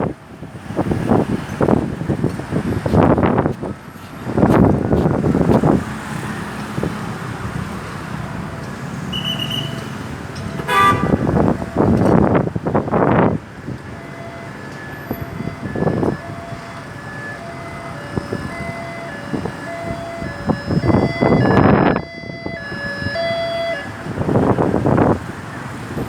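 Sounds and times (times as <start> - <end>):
ambulance siren: 2.8 - 26.0.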